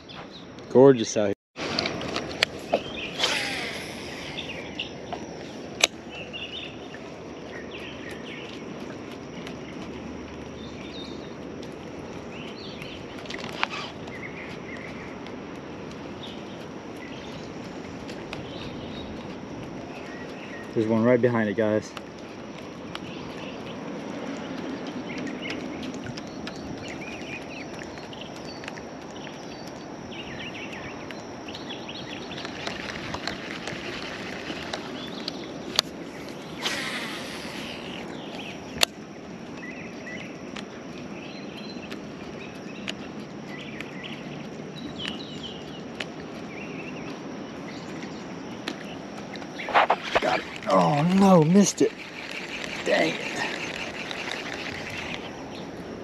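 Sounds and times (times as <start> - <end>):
outdoor noise on open water: 0.0 - 56.0.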